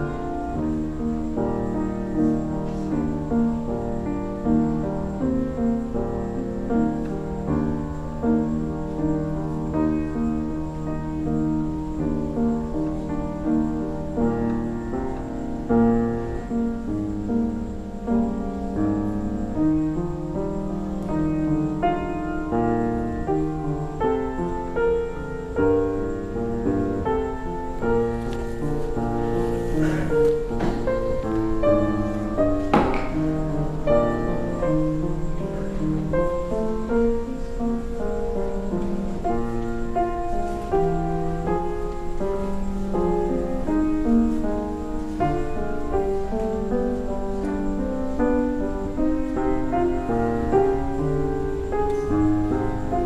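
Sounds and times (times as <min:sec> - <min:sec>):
gentle keyboard music: 0:00.0 - 0:53.0.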